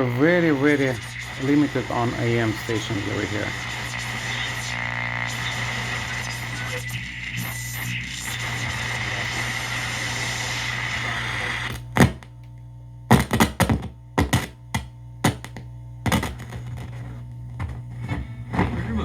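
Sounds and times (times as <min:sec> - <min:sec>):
radio static hiss: 0:00.0 - 0:12.4, 0:13.1 - 0:14.6, 0:15.2 - 0:19.0
steady low hum: 0:00.0 - 0:19.0.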